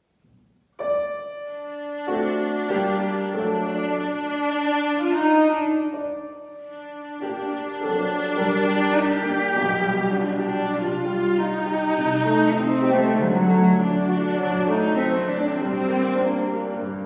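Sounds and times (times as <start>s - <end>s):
piano accompaniment: 0.0s - 17.0s
bowed cello melody: 0.8s - 17.0s.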